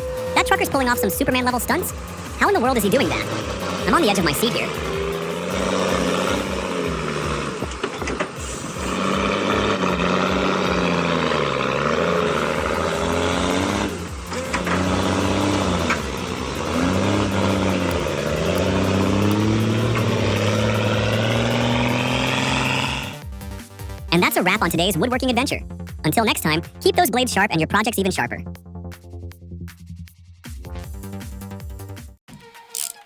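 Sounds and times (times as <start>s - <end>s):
truck engine revving: 0.0s - 28.2s.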